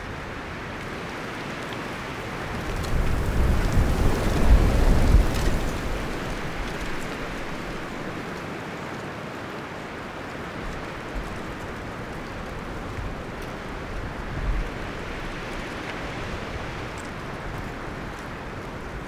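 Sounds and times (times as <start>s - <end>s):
wind rustling through leaves: 0.0s - 19.0s.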